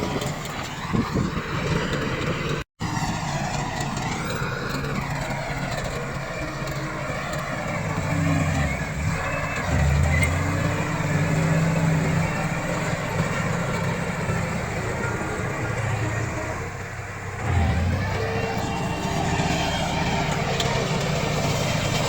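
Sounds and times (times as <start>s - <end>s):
bulldozer diesel engine under load: 0.0s - 22.0s.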